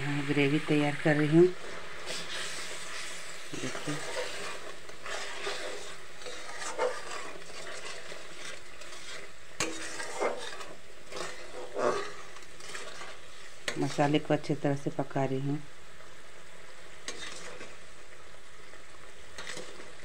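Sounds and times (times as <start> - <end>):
paste sizzling: 0.0 - 20.0
spatula scraping thick gravy: 1.0 - 14.5, 16.0 - 20.0.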